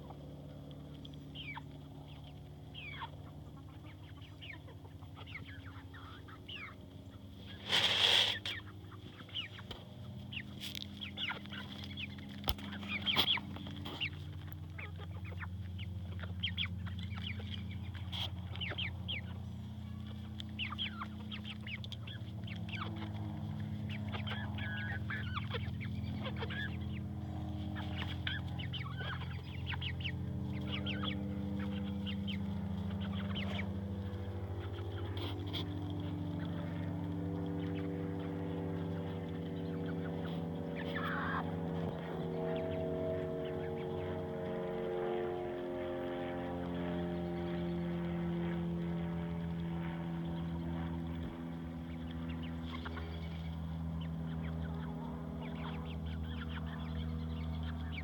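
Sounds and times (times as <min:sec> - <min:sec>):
chickens clucking: 0:00.0 - 0:44.6, 0:48.5 - 0:58.0
low steady hum: 0:00.0 - 0:58.0.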